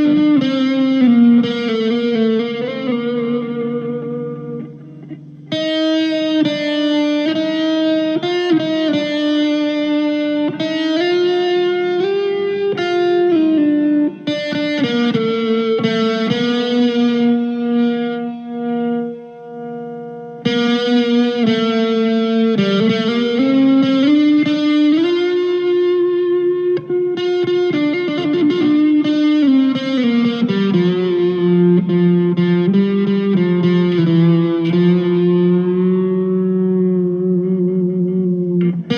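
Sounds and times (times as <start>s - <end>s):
electric guitar chords: 0.0s - 38.9s.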